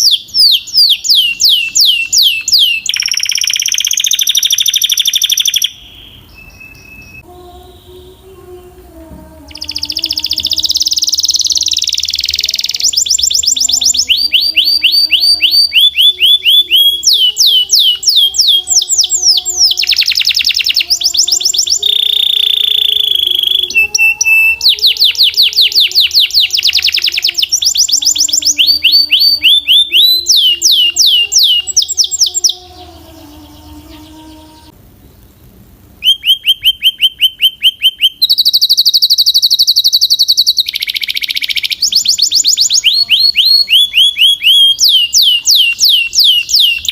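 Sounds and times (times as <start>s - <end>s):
canary singing trills: 0.0s - 8.6s, 9.2s - 35.3s, 36.0s - 46.9s.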